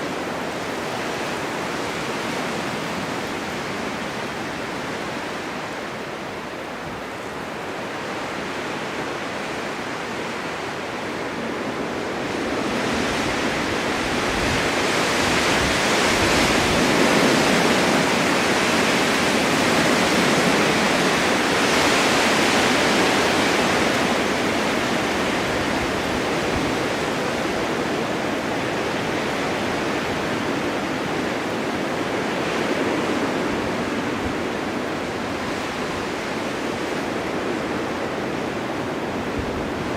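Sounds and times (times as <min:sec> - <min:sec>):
blizzard wind rushing: 0:00.0 - 0:39.9.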